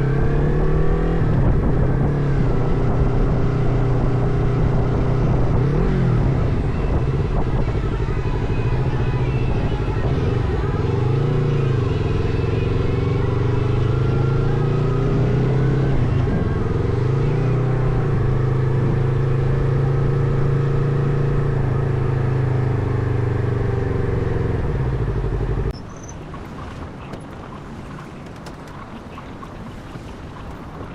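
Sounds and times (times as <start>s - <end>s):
motorcycle engine running: 0.0s - 26.3s.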